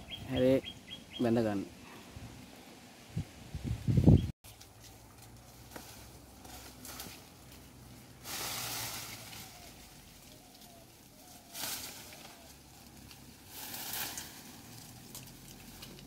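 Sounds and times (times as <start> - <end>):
faint outdoor background: 0.0 - 16.0
rustling hiss: 1.7 - 16.0.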